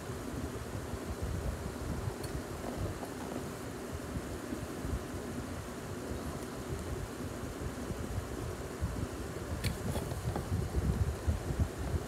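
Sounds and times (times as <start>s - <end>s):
airflow buffeting microphone: 0.0s - 12.0s
electric fan rushing: 0.0s - 12.0s.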